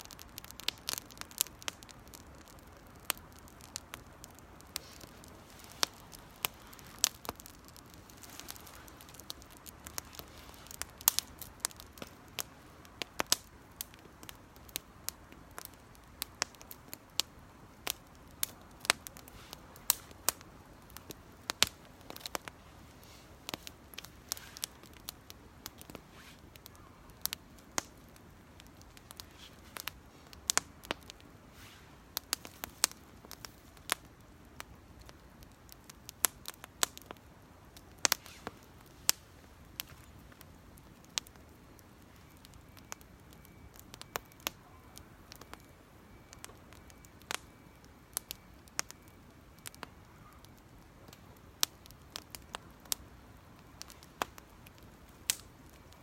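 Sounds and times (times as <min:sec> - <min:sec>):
campfire crackling: 0:00.0 - 0:56.0
faint hiss: 0:00.0 - 0:56.0.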